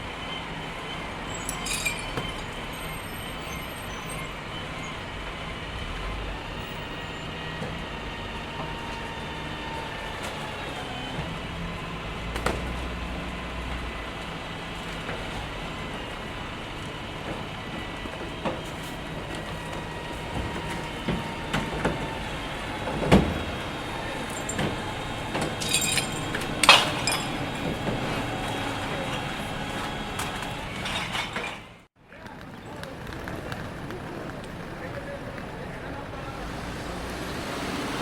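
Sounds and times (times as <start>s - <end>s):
low engine rumble: 0.0s - 31.4s
traffic noise: 0.0s - 38.0s.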